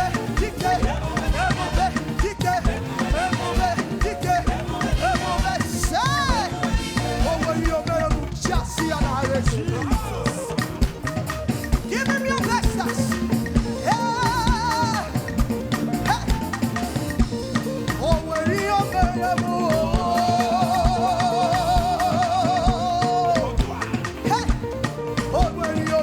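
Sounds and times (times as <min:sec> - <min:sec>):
band playing praise music: 0:00.0 - 0:26.0
drums: 0:00.0 - 0:26.0
shaker-like percussion: 0:00.0 - 0:26.0.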